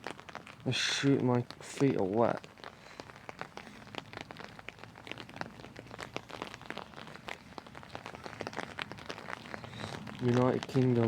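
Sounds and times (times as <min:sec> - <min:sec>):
heavy rain drops tapping: 0:00.0 - 0:11.0.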